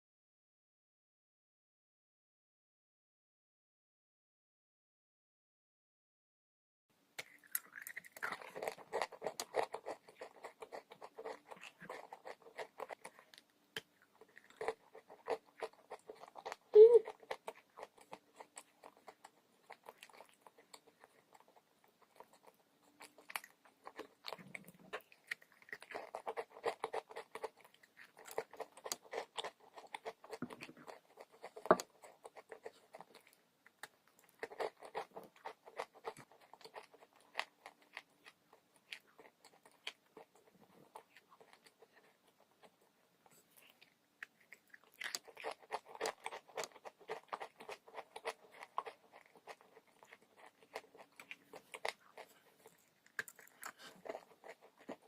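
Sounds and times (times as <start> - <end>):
person chewing crunchy chalk: 7.2 - 55.0.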